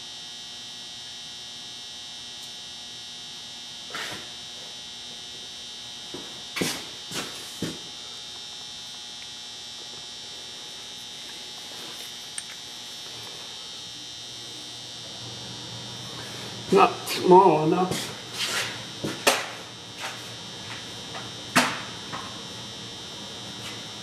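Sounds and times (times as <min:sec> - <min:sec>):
high-pitched electrical whine: 0:00.0 - 0:24.0.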